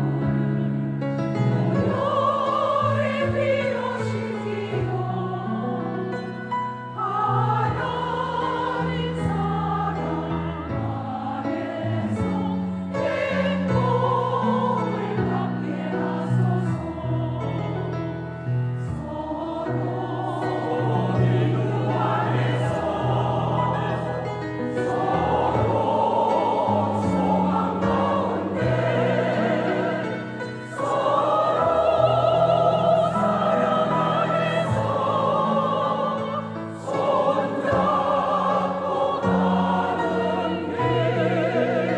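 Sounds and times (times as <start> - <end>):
choir singing a hymn: 0.0 - 41.9.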